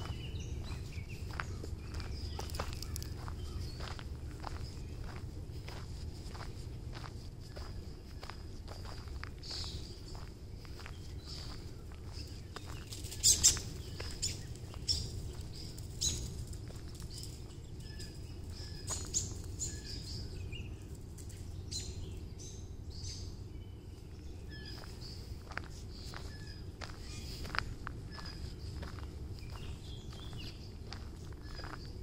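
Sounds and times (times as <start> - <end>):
footsteps on gravel: 0.0 - 21.4, 24.1 - 32.0
low background rumble: 0.0 - 32.0
songbirds chirping: 0.0 - 32.0.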